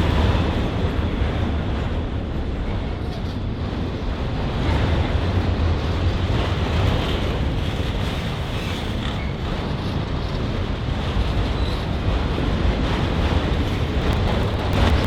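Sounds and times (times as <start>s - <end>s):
freight train rumbling past: 0.0s - 15.0s
wind buffeting microphone: 0.0s - 15.0s.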